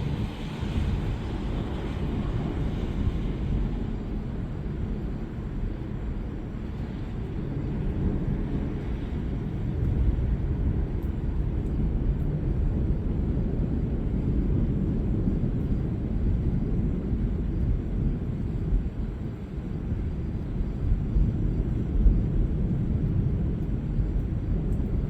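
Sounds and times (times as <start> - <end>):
thunder rumbling: 0.0 - 25.0.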